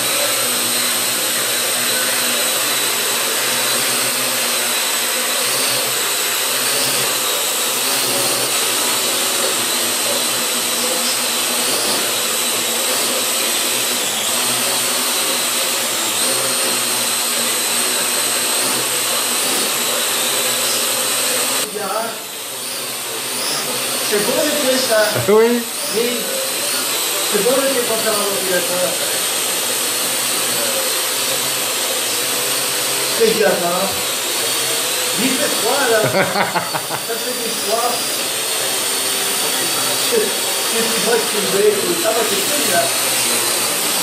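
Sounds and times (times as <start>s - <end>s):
quadcopter propellers whining: 0.0s - 44.0s.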